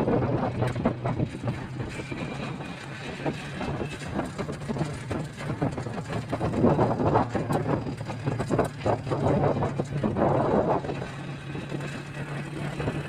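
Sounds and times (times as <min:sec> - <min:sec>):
vehicle engine hum: 0:00.0 - 0:13.0
wind and road noise: 0:00.0 - 0:13.0.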